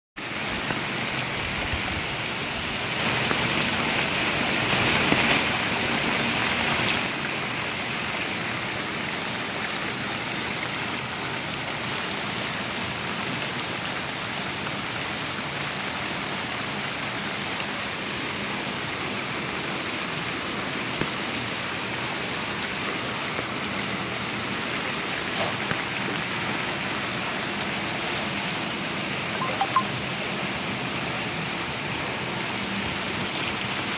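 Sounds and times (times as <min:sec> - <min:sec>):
rain falling on water: 0:00.2 - 0:33.9.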